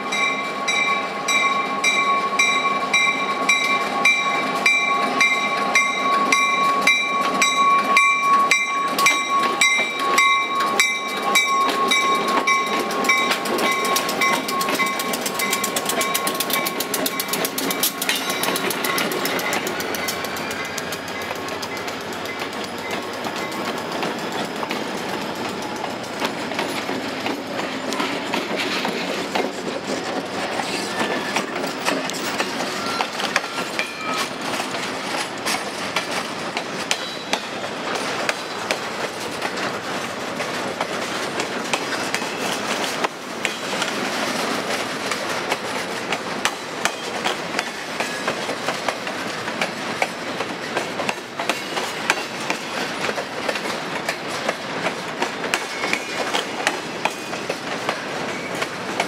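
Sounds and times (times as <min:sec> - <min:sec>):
train wheels clicking over rail joints: 0:00.1 - 0:59.0.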